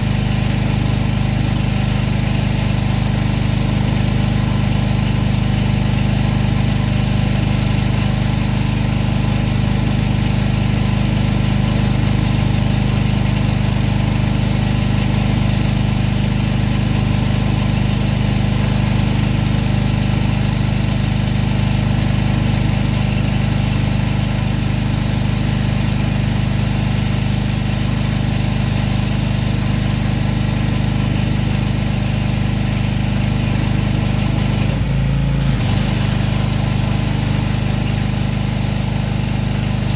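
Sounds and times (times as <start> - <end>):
hiss: 0.0 - 34.8, 35.4 - 39.9
pressure washer engine droning: 0.0 - 39.9.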